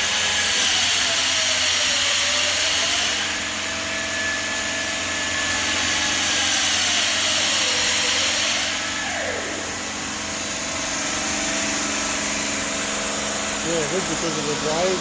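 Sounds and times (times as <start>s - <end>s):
saw blade cutting granite: 0.0s - 9.5s, 10.1s - 15.0s.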